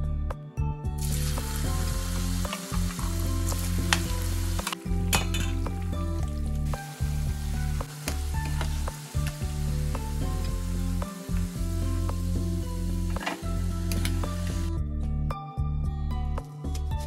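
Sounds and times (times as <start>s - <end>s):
food sizzling in hot oil: 1.0s - 14.8s.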